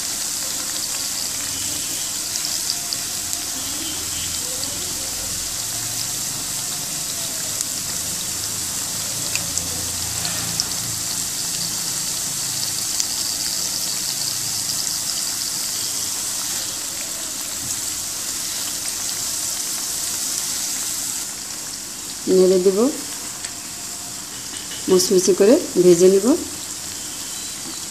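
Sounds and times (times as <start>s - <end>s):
food deep-frying in oil: 0.0s - 27.9s.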